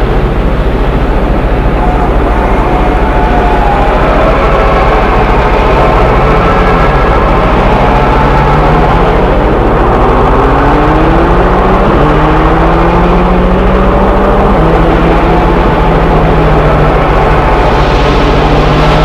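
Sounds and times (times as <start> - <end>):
train engine running: 0.0 - 19.0.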